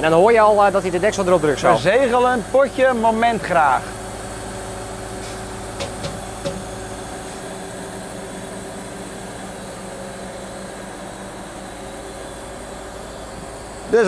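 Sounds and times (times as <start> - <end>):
truck machinery drone: 0.0 - 14.0.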